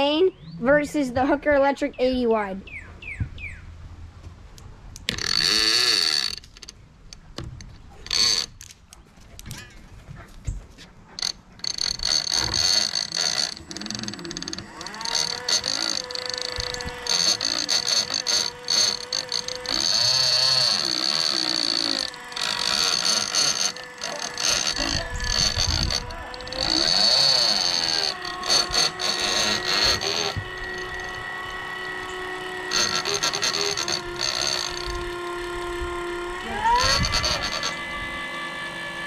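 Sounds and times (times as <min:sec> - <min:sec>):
fishing reel motor whining: 0:05.0 - 0:08.7, 0:11.2 - 0:39.0.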